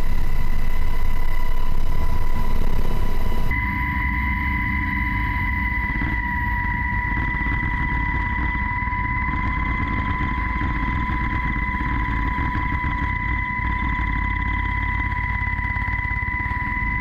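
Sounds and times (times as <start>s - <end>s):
helicopter rotor and engine: 0.0s - 17.0s
high turbine whine: 0.0s - 17.0s.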